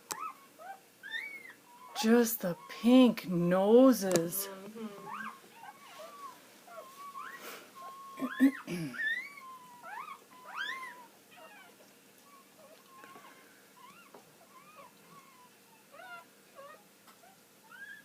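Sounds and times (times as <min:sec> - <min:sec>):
newborn puppies squeaking: 0:00.1 - 0:03.0, 0:05.0 - 0:18.0.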